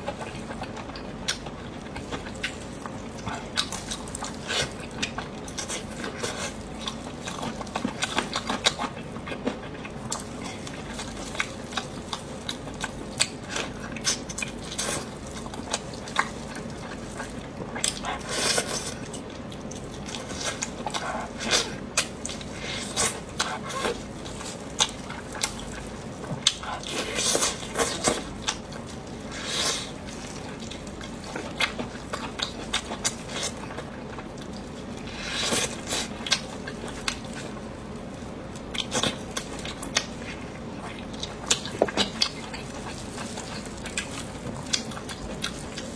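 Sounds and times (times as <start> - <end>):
chewing and mouth clicks: 0.0 - 45.9.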